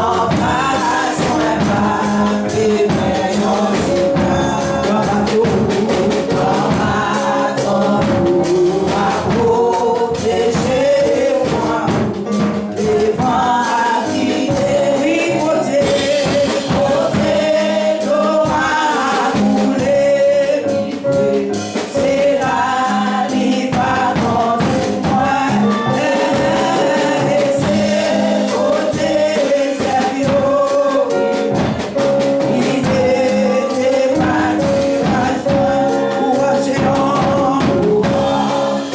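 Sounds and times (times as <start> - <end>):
choir singing gospel: 0.0 - 38.9
instruments playing steady beat: 0.0 - 38.9.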